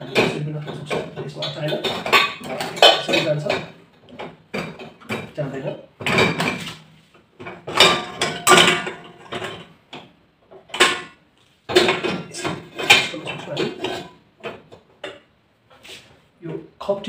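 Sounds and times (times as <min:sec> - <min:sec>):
pots and pans clanking on rack: 0:00.0 - 0:15.3.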